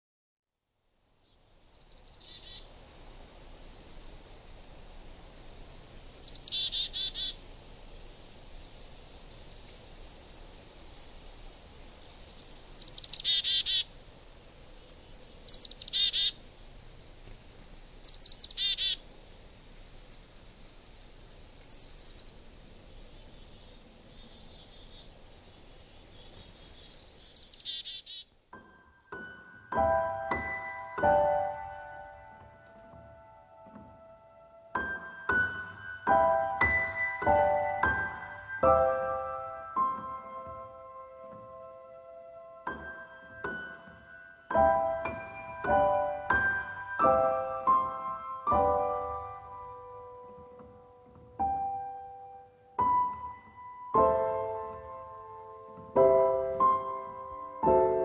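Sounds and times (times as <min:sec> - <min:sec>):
faint steady hiss: 0:00.6 - 0:58.0
small birds calling: 0:00.7 - 0:33.9, 0:34.8 - 0:58.0.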